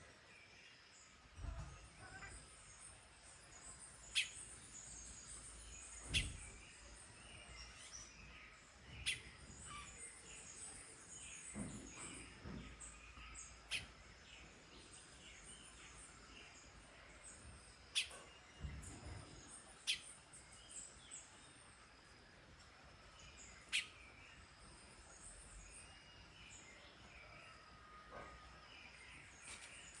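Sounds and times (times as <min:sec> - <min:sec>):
faint high bird chirps: 0:01.4 - 0:21.6, 0:23.0 - 0:30.0.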